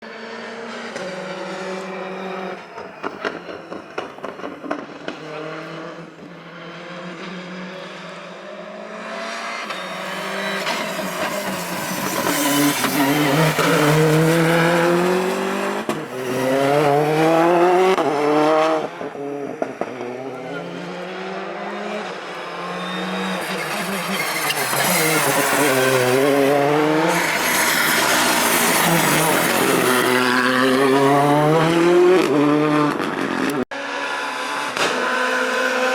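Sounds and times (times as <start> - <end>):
rally car engine revving: 0.0 - 35.9.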